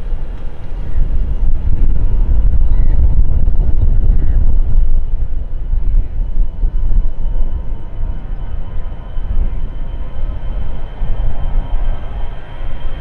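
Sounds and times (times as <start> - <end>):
faint steady engine tones: 0.0 - 13.0
jet airliner engines rumbling: 0.0 - 13.0.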